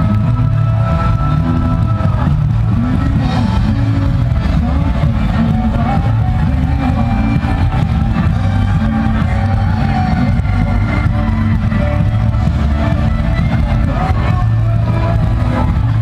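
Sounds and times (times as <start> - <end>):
live band music with heavy bass: 0.0 - 16.0.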